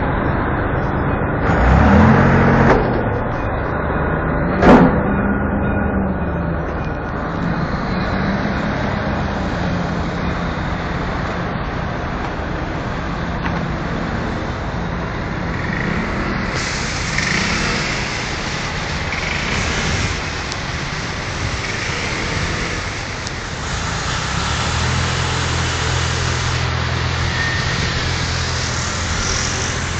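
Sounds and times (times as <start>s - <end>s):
low engine drone: 0.0s - 29.9s
tyre and traffic noise: 0.0s - 29.9s
vehicles driving past: 0.0s - 29.9s.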